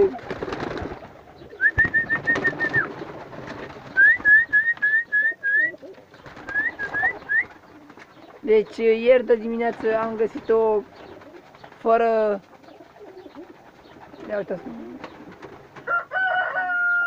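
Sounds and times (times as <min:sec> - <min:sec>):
birds peeping: 0:00.0 - 0:17.0.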